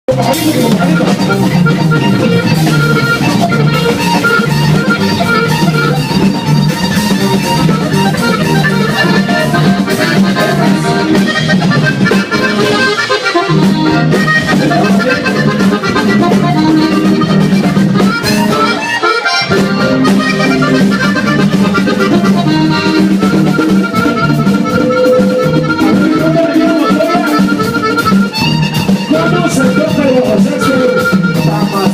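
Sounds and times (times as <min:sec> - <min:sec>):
latin american accordion music: 0:00.1 - 0:31.9
steady bass line: 0:00.1 - 0:31.9.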